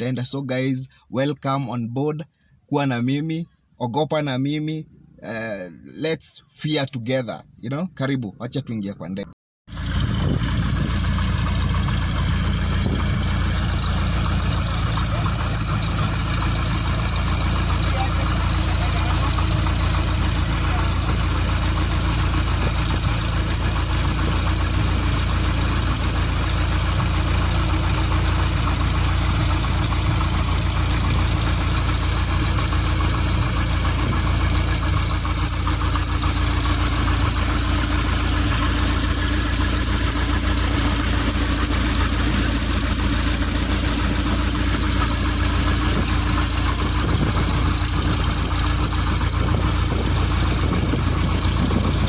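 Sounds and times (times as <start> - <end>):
small aircraft engine droning: 9.7 - 52.0.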